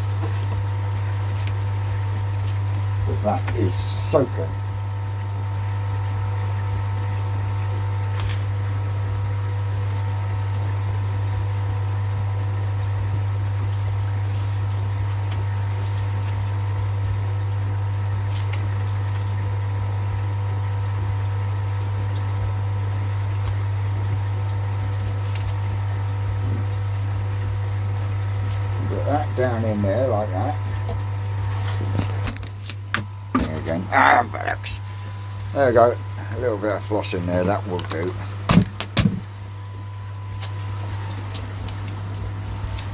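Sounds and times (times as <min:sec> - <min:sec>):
low electric pump hum: 0:00.0 - 0:42.9.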